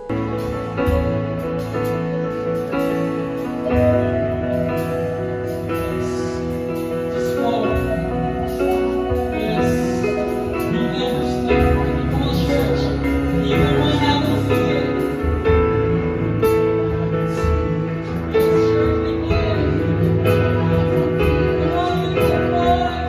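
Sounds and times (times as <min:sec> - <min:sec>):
worship band playing instrumental: 0:00.0 - 0:23.0.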